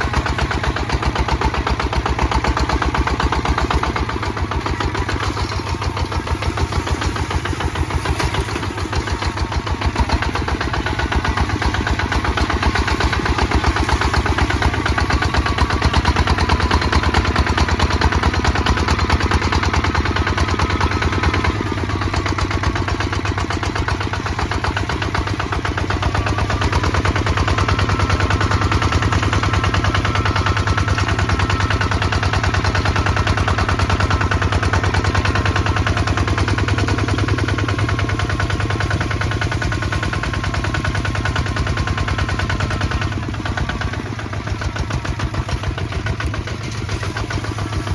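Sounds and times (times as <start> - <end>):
diesel engine chugging: 0.0 - 47.9.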